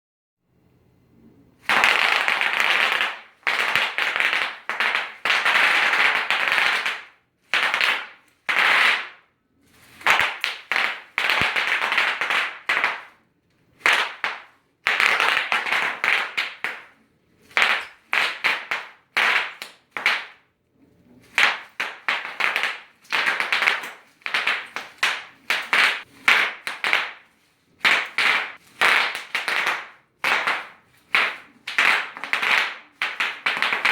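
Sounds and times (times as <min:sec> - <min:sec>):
bubble wrap popping: 0:01.7 - 0:09.2, 0:09.9 - 0:13.2, 0:13.8 - 0:20.4, 0:21.2 - 0:33.9.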